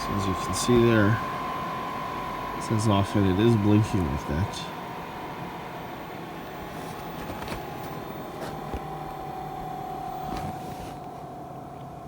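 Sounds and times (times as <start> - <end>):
blower fan whine winding down: 0.0 - 12.0.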